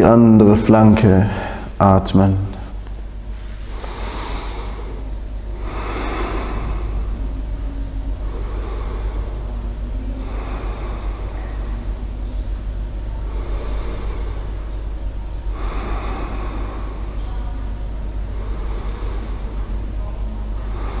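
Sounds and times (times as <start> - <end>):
steady low hum: 0.0 - 21.0
person breathing deeply through nose: 3.3 - 21.0.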